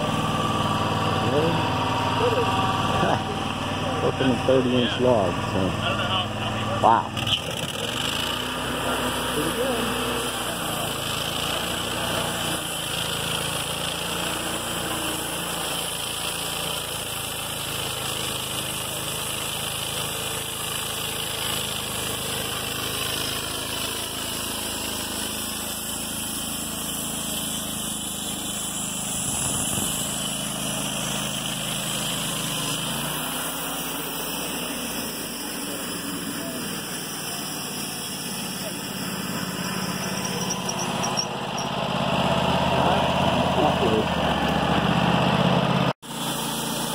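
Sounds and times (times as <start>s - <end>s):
band sawmill cutting log: 0.0s - 46.9s.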